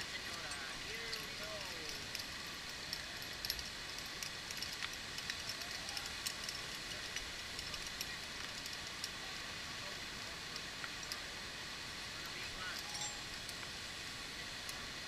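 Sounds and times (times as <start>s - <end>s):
light rain hissing: 0.0s - 15.0s.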